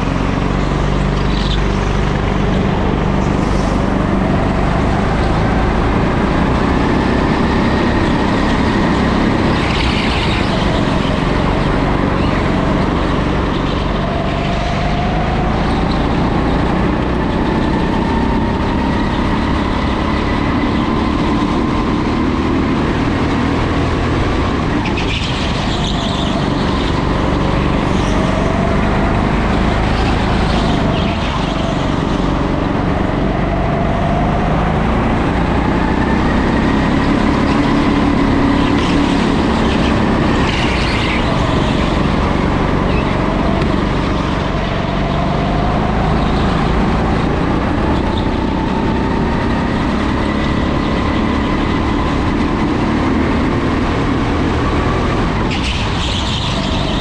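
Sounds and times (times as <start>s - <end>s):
go-kart motor revving: 0.0s - 57.0s.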